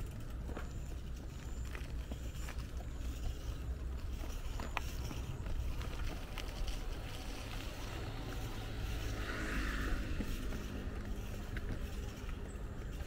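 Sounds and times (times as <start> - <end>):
bicycle tyres rolling on road: 0.0 - 13.0.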